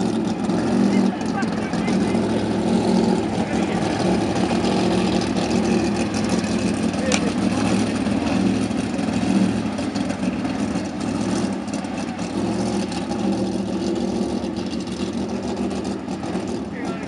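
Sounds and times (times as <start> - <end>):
race car engine droning: 0.0 - 17.0.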